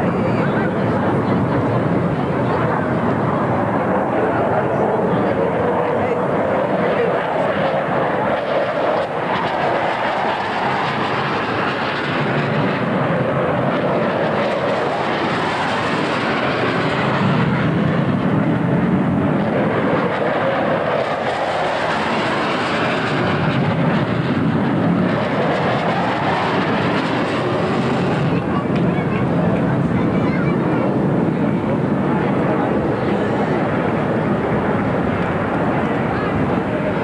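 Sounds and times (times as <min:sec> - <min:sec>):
fighter jet flying past: 0:00.0 - 0:37.0.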